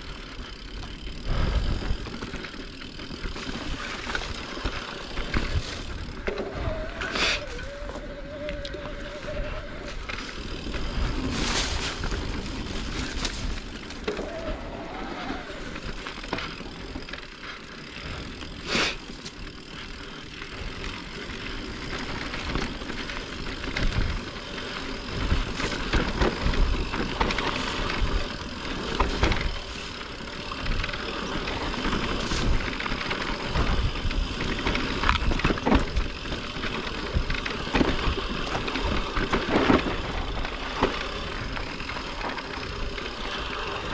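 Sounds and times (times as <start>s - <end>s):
bike knocking and rattling: 0.0s - 43.9s
bike tyres on dirt trail: 0.0s - 43.9s.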